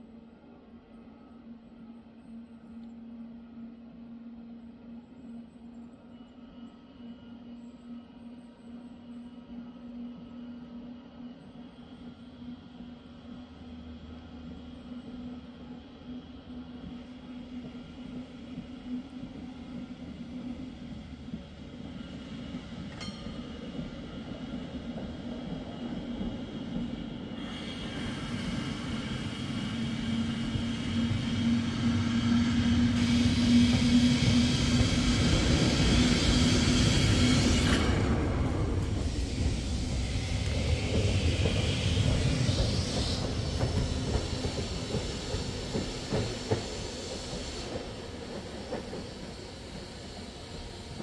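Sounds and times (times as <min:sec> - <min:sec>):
tram rumbling on rails: 0:07.4 - 0:51.0.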